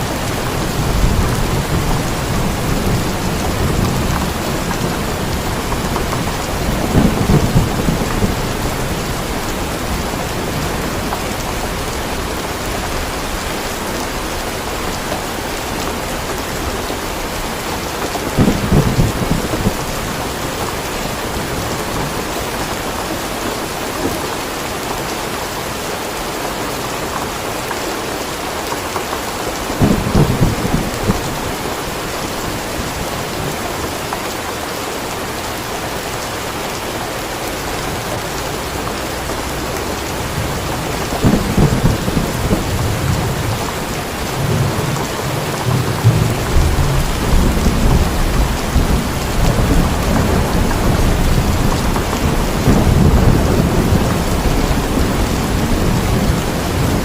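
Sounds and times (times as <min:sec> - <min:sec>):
thunder rumbling: 0:00.0 - 0:24.2, 0:29.6 - 0:33.8, 0:37.7 - 0:57.0
steady rain: 0:00.0 - 0:57.0.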